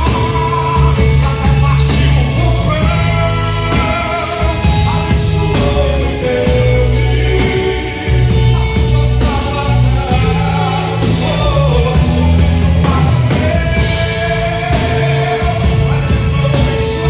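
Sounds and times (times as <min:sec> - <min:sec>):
bass notes: 0:00.0 - 0:17.0
live band playing: 0:00.0 - 0:17.0
person singing: 0:00.0 - 0:17.0.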